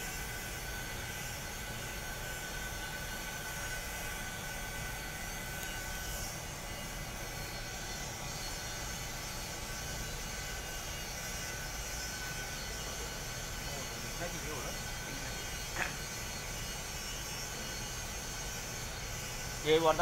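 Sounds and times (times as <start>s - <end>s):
machinery hum: 0.0s - 20.0s
thin high whine: 0.0s - 20.0s.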